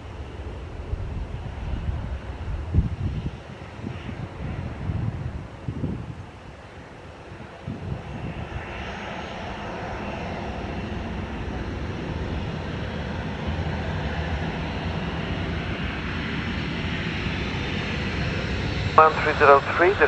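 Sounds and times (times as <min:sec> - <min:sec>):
jet engines at takeoff power: 0:00.0 - 0:20.0.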